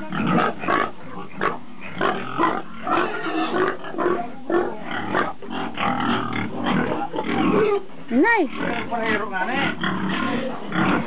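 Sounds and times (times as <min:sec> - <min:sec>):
boar grunting: 0:00.0 - 0:11.0.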